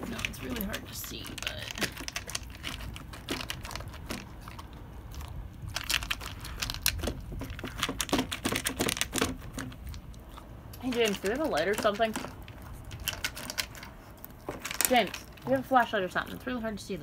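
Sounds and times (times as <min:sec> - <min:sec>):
dog eating clicking crunching: 0:00.0 - 0:15.6.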